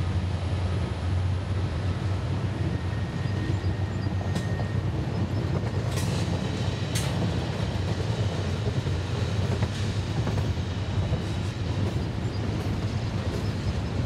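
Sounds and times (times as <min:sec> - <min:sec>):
train rumbling by: 0:00.0 - 0:14.0.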